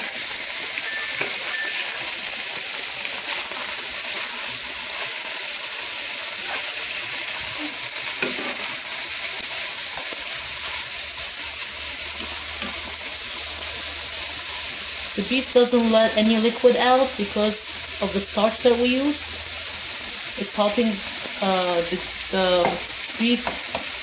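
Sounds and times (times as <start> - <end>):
beef and onions sizzling in oil: 0.0 - 24.0.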